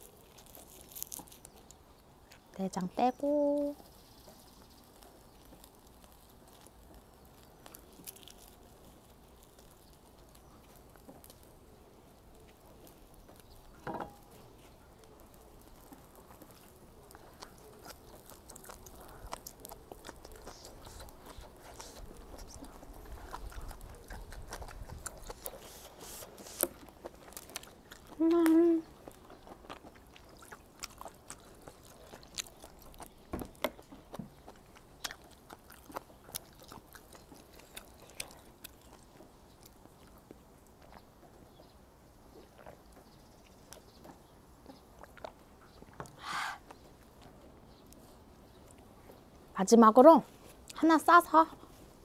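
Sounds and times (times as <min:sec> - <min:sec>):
wet clicky chewing: 0:00.0 - 0:02.9, 0:03.5 - 0:49.4.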